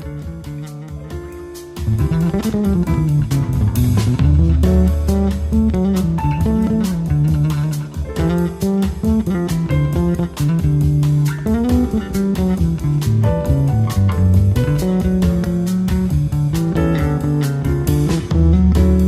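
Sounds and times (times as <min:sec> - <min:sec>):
guitar and bass instrumental: 0:00.0 - 0:19.0.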